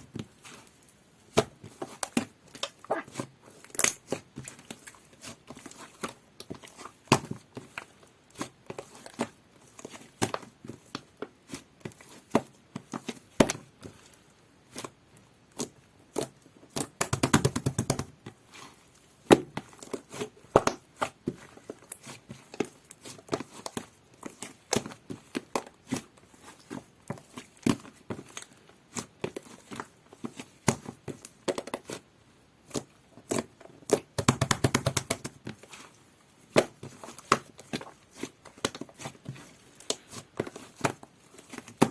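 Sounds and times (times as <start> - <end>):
rapid crackling of slime: 0.0 - 41.9.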